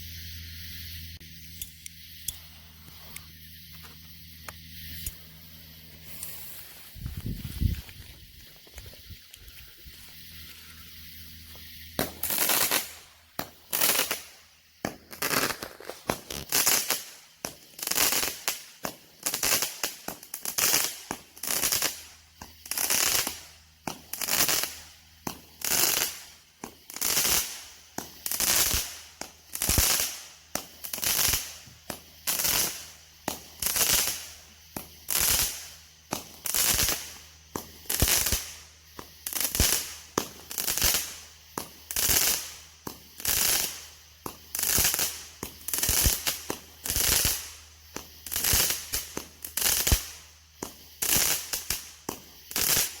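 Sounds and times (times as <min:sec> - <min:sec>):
firework reports with crackling tails: 0:00.0 - 0:53.0.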